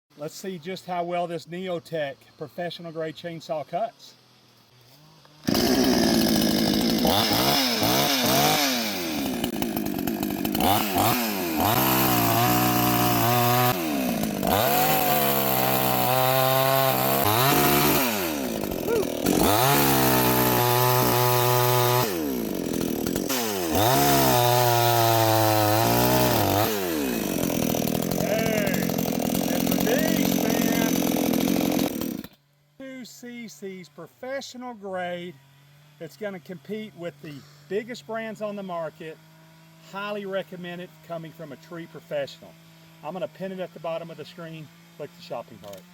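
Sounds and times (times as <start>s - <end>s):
chainsaw cutting wood: 3.8s - 45.9s.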